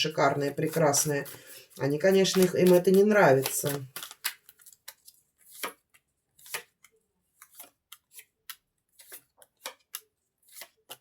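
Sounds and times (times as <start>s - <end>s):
cards clicking and rustling: 0.6s - 11.0s.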